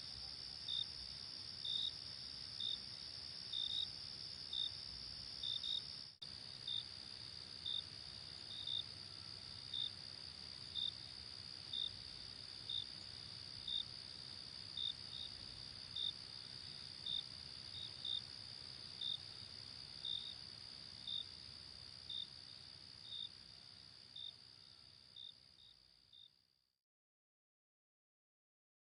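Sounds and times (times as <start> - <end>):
crickets trilling and chirping: 0.0 - 26.3.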